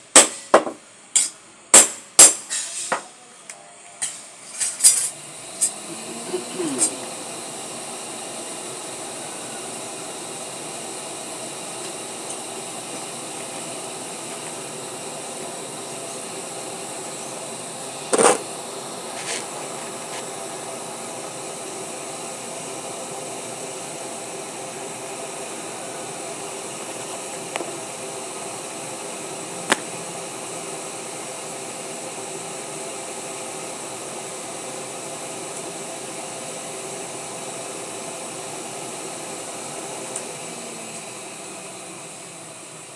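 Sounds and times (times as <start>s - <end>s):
workshop machinery humming: 0.0s - 42.9s.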